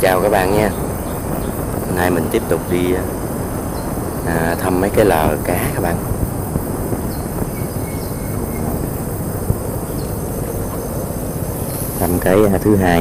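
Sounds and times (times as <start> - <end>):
faint chirps: 0.0 - 13.0
faint insect drone: 0.0 - 13.0
low steady noise: 0.0 - 13.0.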